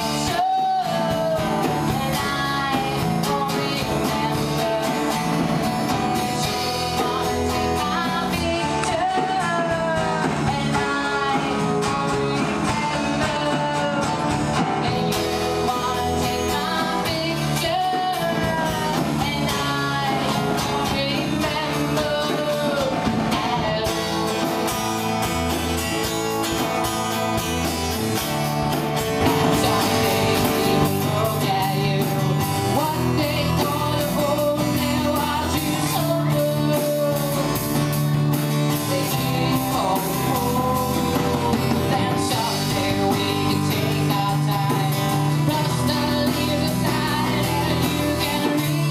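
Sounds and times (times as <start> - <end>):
woman singing: 0.0 - 24.8, 29.0 - 48.9
acoustic guitar strumming: 0.0 - 48.9
drum kit with cymbals: 0.0 - 48.9.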